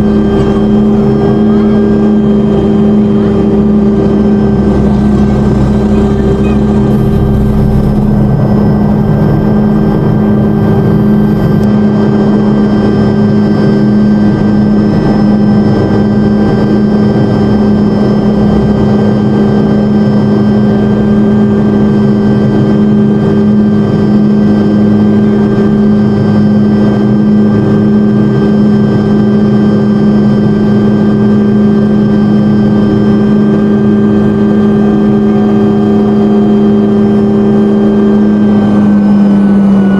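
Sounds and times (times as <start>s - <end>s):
helicopter engine and rotor drone: 0.0s - 39.9s
high-pitched whines: 0.0s - 39.9s.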